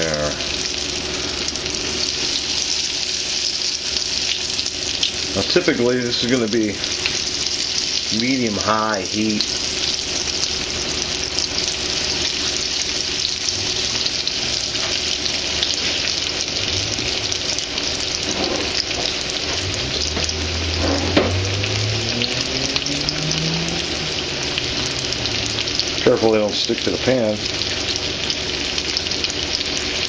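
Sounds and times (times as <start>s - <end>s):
fish sizzling in oil: 0.0s - 30.0s.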